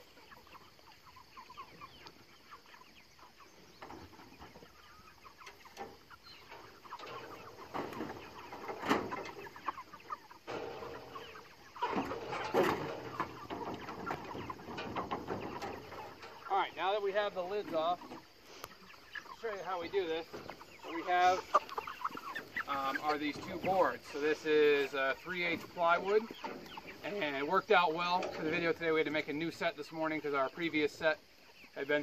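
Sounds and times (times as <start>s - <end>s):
chickens clucking and chirping: 0.0s - 32.0s.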